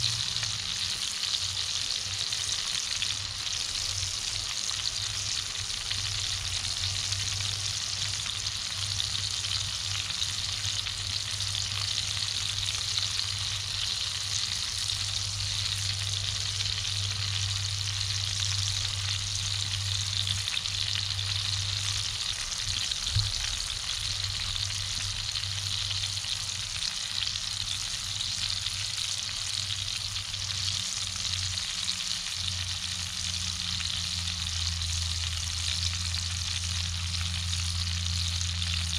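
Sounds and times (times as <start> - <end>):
steak sizzling in a skillet: 0.0 - 38.9.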